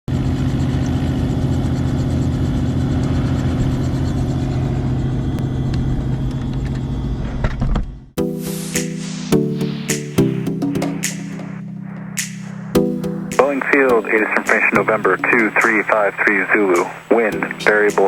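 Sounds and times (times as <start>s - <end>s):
aircraft engines droning: 0.1s - 7.3s, 8.2s - 18.0s.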